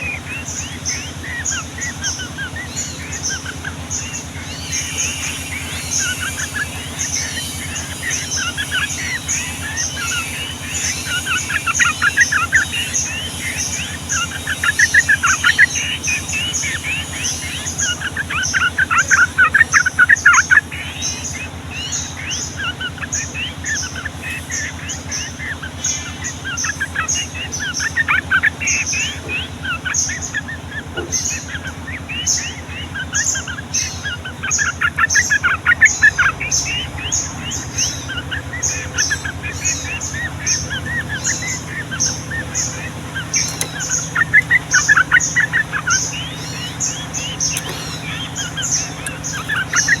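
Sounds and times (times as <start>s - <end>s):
bulbuls singing: 0.0s - 50.0s.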